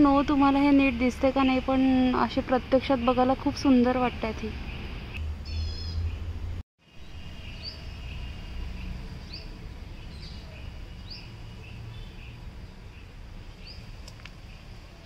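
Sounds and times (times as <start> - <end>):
small birds chirping: 1.4 - 15.0.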